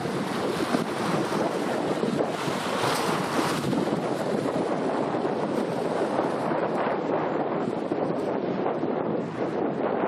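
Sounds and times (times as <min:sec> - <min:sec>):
waves washing: 0:00.0 - 0:10.0
wind buffeting microphone: 0:00.0 - 0:10.0.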